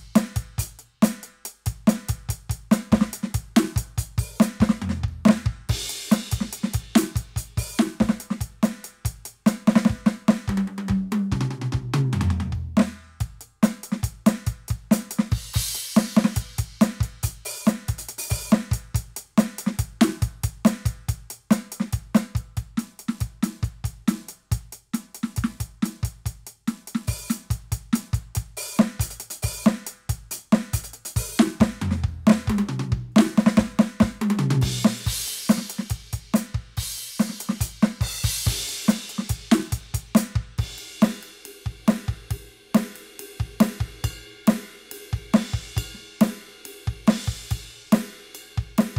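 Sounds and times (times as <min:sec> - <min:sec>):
electronic drum kit groove: 0:00.0 - 0:48.9.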